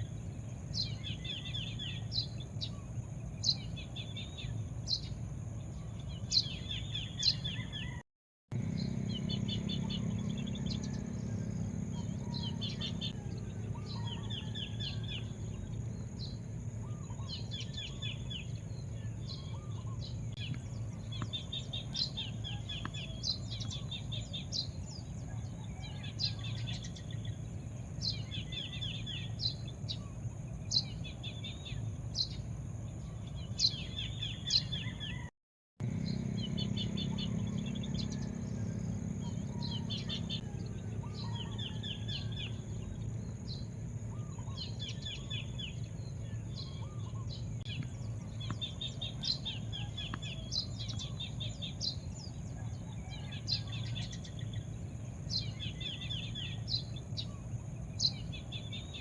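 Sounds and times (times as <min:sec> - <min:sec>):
songbirds chirping: 0:00.0 - 0:59.0
steady low rumble: 0:08.6 - 0:33.4, 0:35.8 - 0:59.0.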